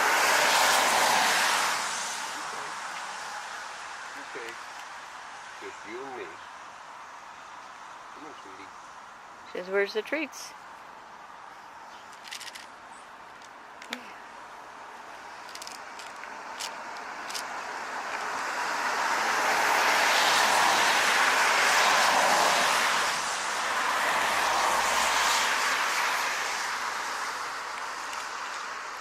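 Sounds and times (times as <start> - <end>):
vehicle passing on road: 0.0 - 9.9, 10.5 - 29.0.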